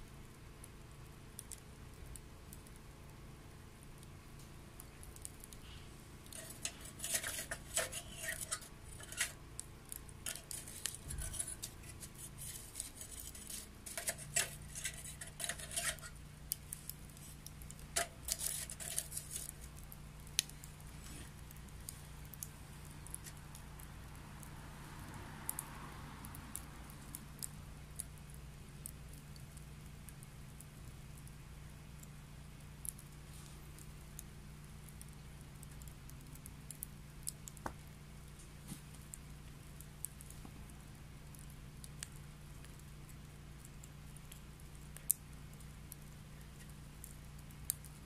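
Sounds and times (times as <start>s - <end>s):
low steady hum: 0.0s - 48.0s
wet wood crackling and popping: 0.0s - 48.0s.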